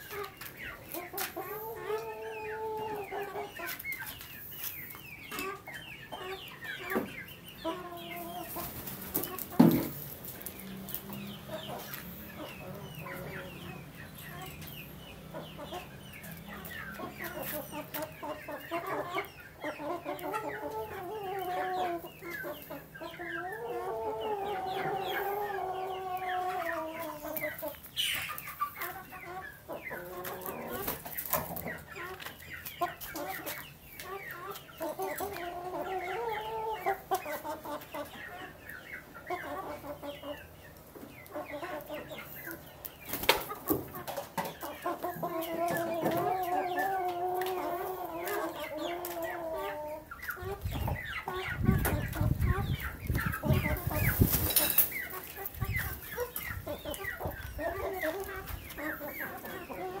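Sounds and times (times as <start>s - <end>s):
chickens clucking and calling: 0.0s - 60.0s.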